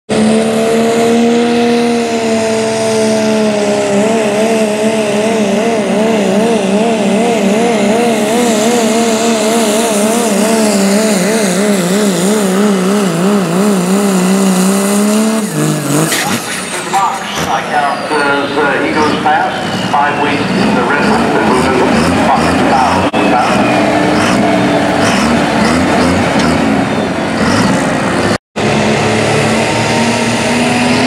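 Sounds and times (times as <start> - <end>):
diesel engine at high revs: 0.1 - 31.0.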